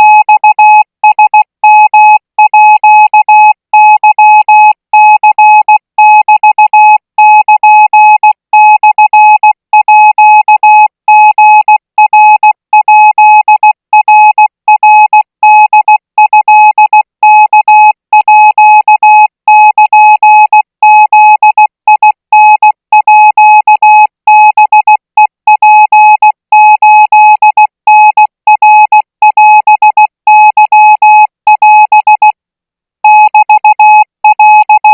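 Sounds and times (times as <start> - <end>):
morse code beeps: 0.0 - 32.4, 33.0 - 34.9.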